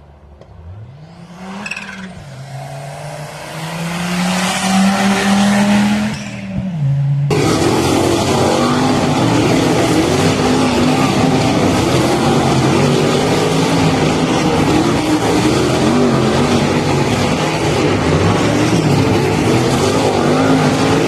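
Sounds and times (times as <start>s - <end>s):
race car engines at speed: 0.0s - 21.0s.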